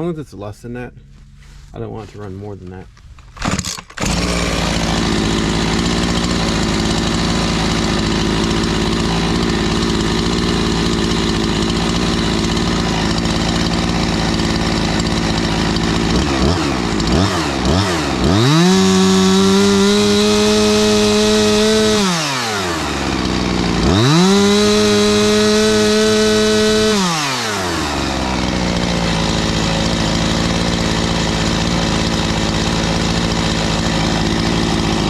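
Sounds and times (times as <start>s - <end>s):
chainsaw engine revving: 3.3s - 35.0s.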